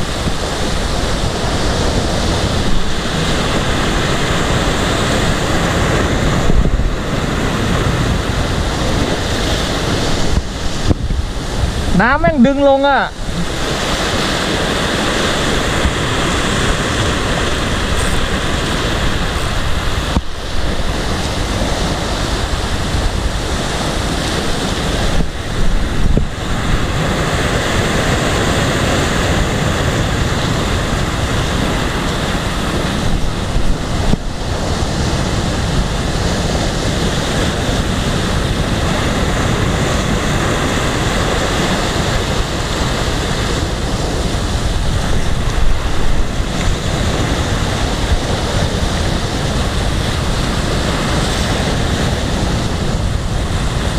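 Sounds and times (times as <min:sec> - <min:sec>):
surf breaking on rocks: 0:00.0 - 0:53.9
wind buffeting microphone: 0:00.0 - 0:53.9.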